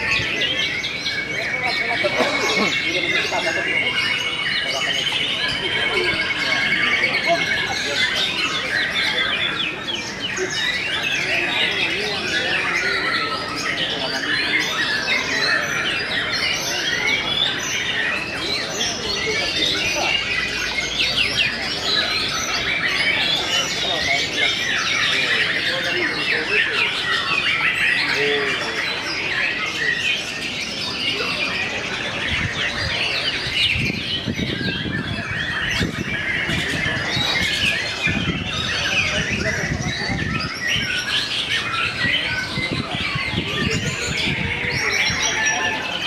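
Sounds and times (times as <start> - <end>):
many songbirds singing: 0.0 - 46.0.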